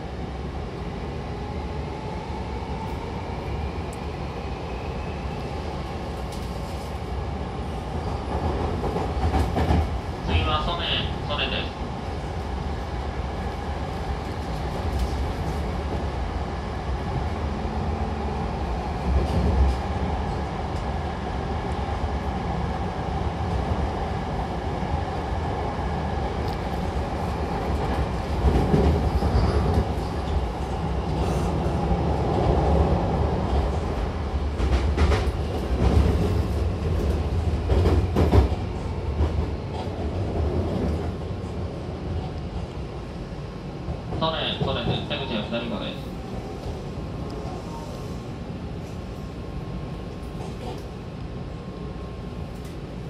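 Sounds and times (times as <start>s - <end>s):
train wheels rumbling on rails: 1.5s - 53.0s.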